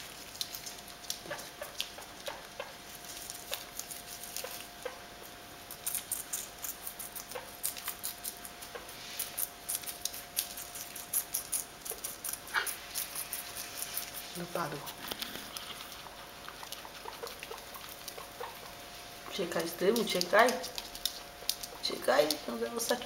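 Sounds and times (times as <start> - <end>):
guinea pig feet clicking: 0.0 - 5.0, 5.6 - 23.0
faint steady hum: 0.0 - 23.0.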